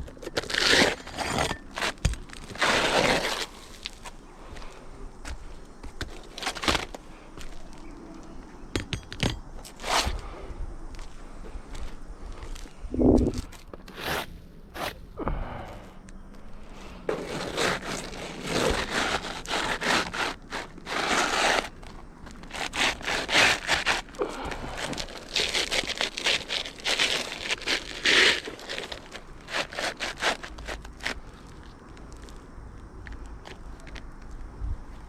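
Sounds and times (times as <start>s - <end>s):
scraping and crunching on shingle: 0.0s - 15.9s, 16.7s - 35.0s.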